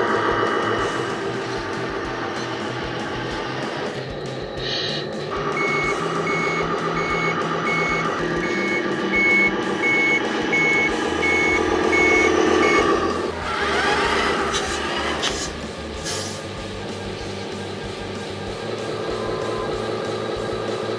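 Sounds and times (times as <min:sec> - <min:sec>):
electric drive whine: 0:00.0 - 0:20.9
reversing beeper: 0:00.0 - 0:20.9.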